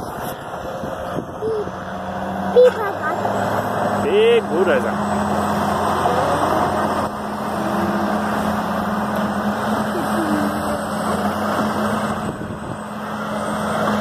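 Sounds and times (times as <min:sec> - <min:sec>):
bulldozer diesel engines droning: 0:00.0 - 0:14.0.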